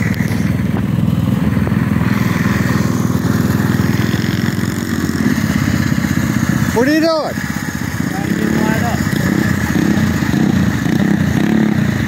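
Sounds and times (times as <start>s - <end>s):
mini bike engine running: 0.0s - 12.0s.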